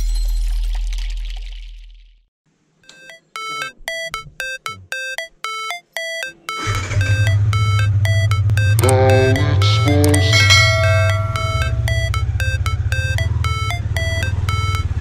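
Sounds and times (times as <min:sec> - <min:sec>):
bright beeping notes: 0:02.9 - 0:15.0
deep bass beat: 0:03.0 - 0:15.0.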